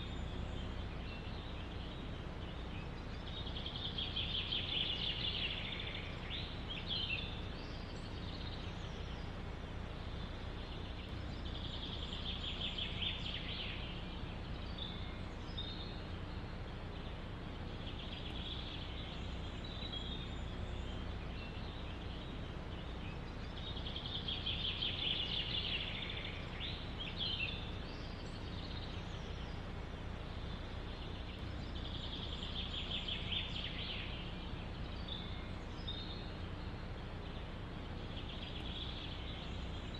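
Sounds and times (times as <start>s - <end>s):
bird chirps: 0.0s - 39.9s
low background rumble: 0.0s - 39.9s
songbird trilling: 0.0s - 39.9s.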